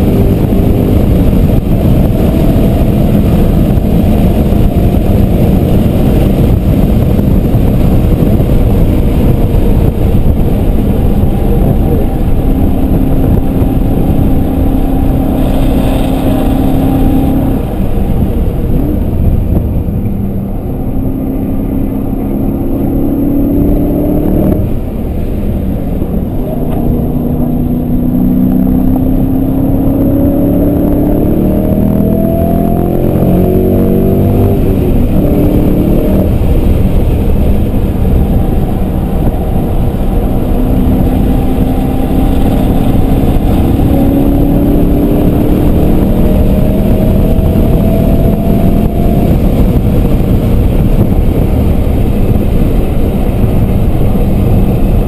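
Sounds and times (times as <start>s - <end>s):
car engine accelerating hard: 0.0s - 55.0s
road noise: 0.0s - 55.0s.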